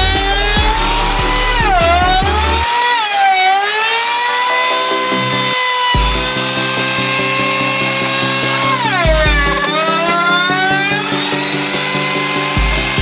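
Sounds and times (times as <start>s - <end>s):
background music with a beat: 0.0s - 2.8s, 4.6s - 13.0s.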